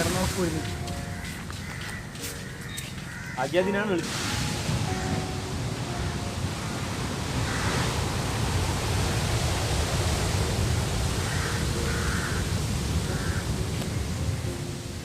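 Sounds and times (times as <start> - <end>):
sea surf rushing: 0.0 - 1.6, 3.2 - 15.0
wind: 0.0 - 15.0.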